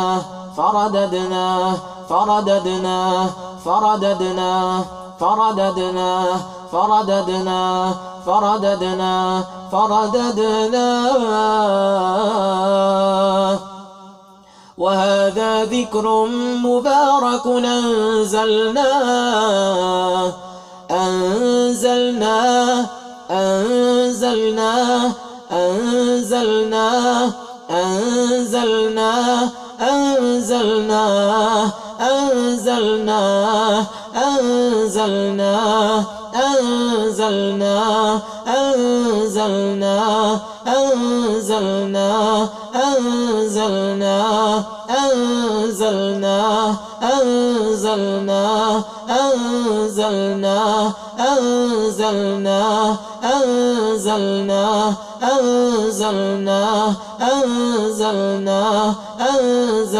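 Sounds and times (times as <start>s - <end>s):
man chanting melodic recitation: 0.0s - 13.8s, 14.8s - 59.9s.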